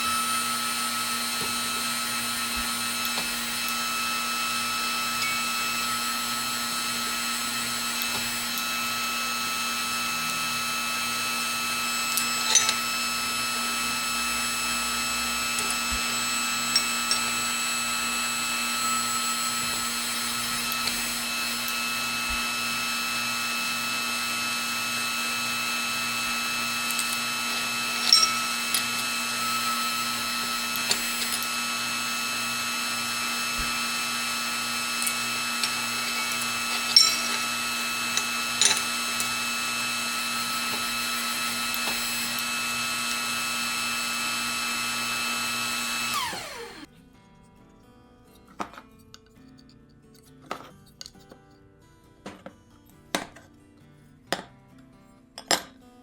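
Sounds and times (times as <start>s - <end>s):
machine motor whining: 0.0s - 46.9s.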